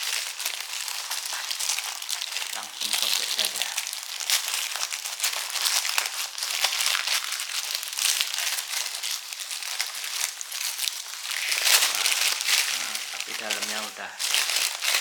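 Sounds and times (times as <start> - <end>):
wrapping paper tearing and crinkling: 0.0 - 15.0.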